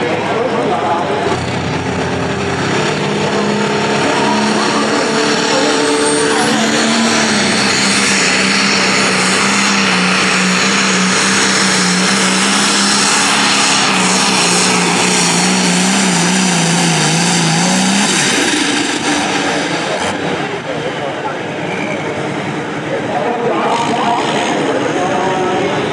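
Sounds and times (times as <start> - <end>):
high whine: 0.0 - 25.9
tractor engine under full load: 0.0 - 25.9.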